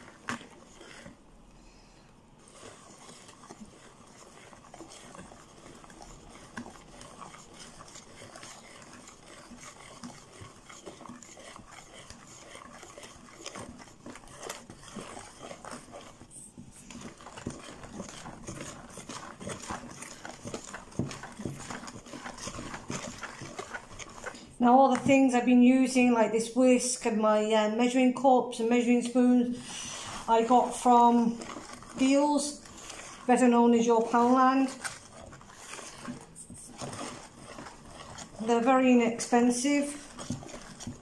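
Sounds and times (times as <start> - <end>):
whisk beating batter in bowl: 0.0 - 1.6, 2.2 - 41.0.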